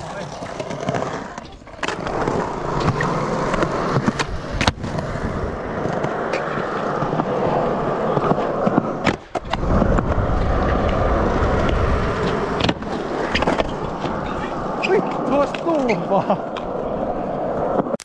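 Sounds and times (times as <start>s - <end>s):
skateboard clacks: 0.0s - 18.0s
skateboard wheels rolling on concrete: 0.0s - 18.0s.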